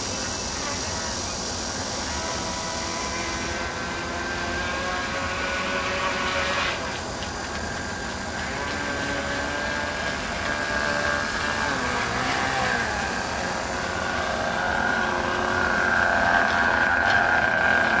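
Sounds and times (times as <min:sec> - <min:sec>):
model airboat motor whining: 0:00.0 - 0:18.0.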